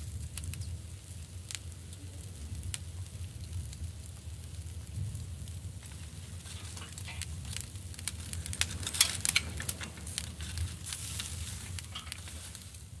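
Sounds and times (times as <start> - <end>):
charcoal grill crackling and sizzling: 0.0 - 13.0
coals popping: 0.0 - 13.0
low steady rumble: 0.0 - 13.0.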